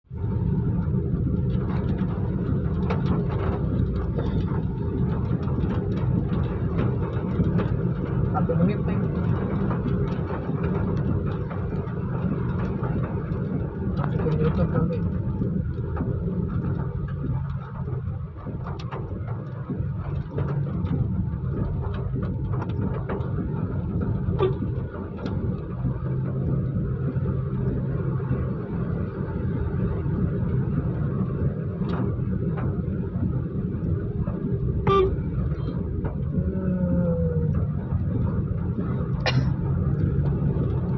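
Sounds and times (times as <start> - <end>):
raindrops ticking: 0.1 - 40.9
steady rain: 0.1 - 40.9.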